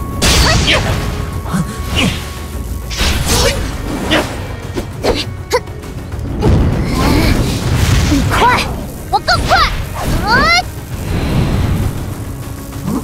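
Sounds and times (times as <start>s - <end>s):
dramatic music: 0.0s - 13.0s.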